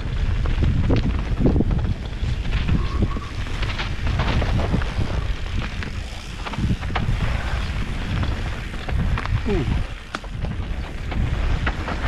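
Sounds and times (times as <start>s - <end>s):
bike knocks and rattles: 0.0s - 12.0s
tyres rolling on dirt: 0.0s - 12.0s
wind rushing over microphone: 0.0s - 12.0s.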